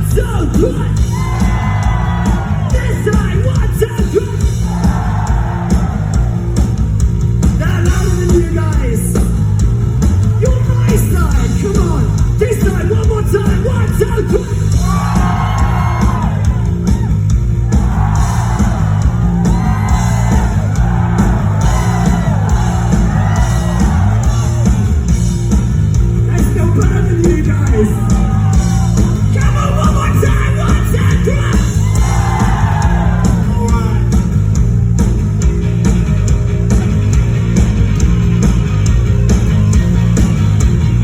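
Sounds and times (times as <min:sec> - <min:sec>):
crowd yelling and screaming: 0:00.0 - 0:11.4, 0:14.2 - 0:37.1
live rock band playing: 0:00.0 - 0:41.0
pulsing bass: 0:00.0 - 0:41.0.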